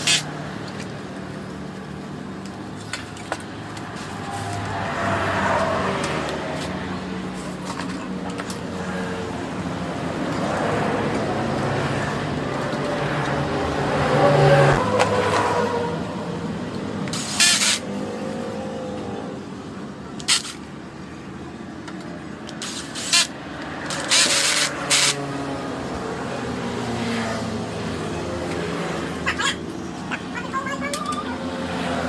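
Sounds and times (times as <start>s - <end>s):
traffic hum: 0.0s - 32.0s.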